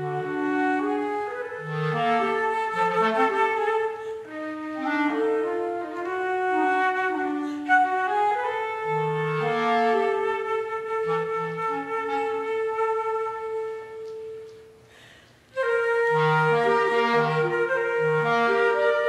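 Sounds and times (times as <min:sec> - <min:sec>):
clarinet: 0:00.0 - 0:19.0
flute: 0:00.0 - 0:19.0.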